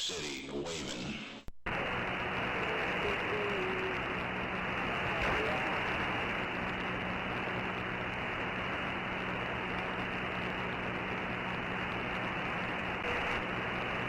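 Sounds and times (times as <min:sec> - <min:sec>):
faint low hum: 0:00.0 - 0:14.0
radio static hiss: 0:00.0 - 0:14.0.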